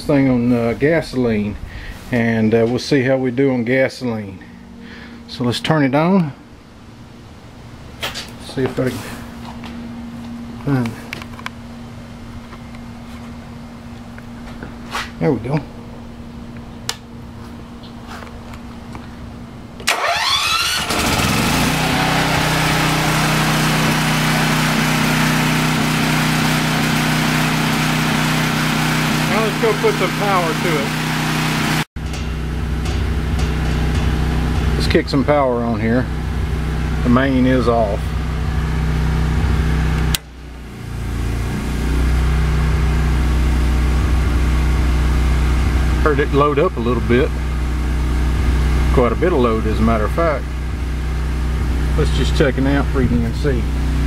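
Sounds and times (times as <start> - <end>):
generator engine starting and running: 0.0 - 54.0.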